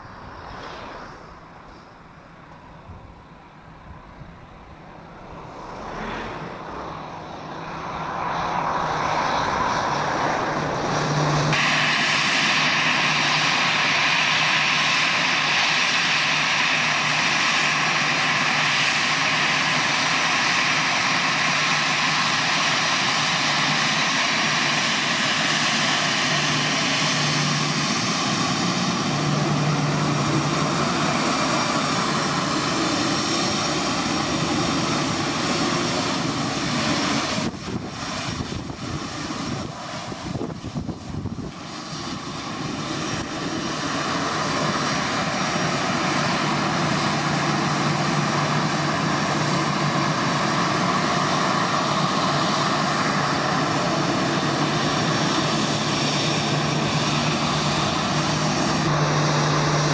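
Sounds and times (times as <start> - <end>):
jet engine whine and hiss: 0.0 - 59.9.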